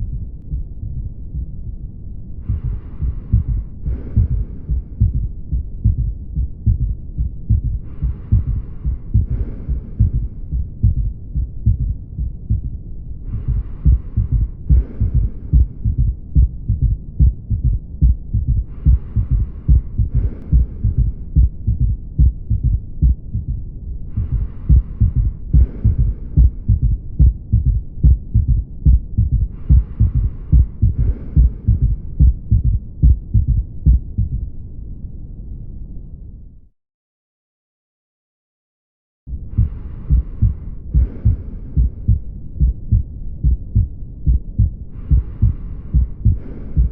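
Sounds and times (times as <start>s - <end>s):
heartbeat through stethoscope: 0.0s - 34.6s, 39.3s - 46.9s
soft breath sounds: 0.0s - 34.6s, 39.3s - 46.9s.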